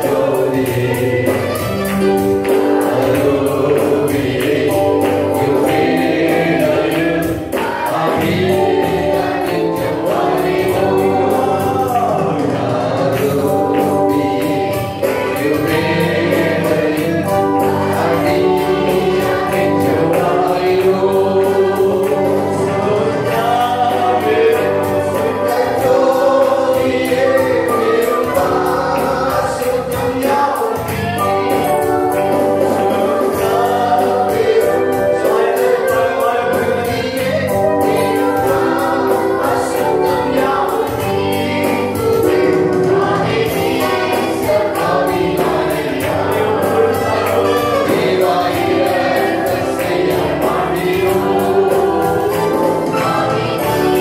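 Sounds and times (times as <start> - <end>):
instrumental accompaniment with beat: 0.0 - 54.0
women singing worship song: 0.0 - 54.0.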